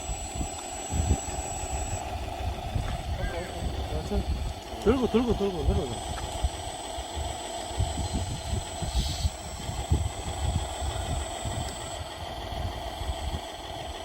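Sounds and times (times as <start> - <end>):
thin high whine: 0.0 - 14.0
toy truck motor hum: 0.0 - 14.0.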